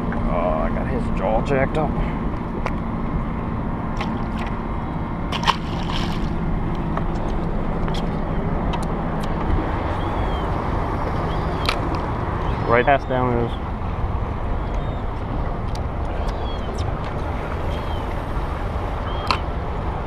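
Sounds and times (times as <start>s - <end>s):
boat motor humming: 0.0s - 20.0s
water sloshing against hull: 1.7s - 20.0s.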